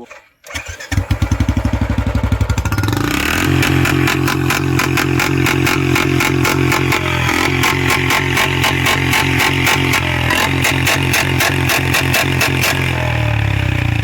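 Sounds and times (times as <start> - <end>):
motorcycle engine exhaust beats: 1.0 - 14.0.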